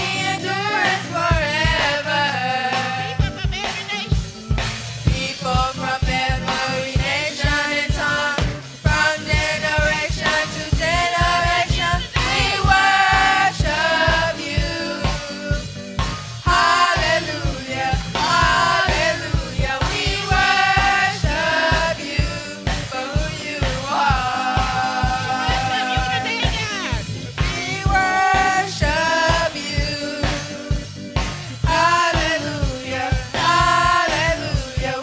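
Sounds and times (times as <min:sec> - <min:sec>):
gospel singing voices: 0:00.0 - 0:35.0
live band with drums and bass: 0:00.0 - 0:35.0.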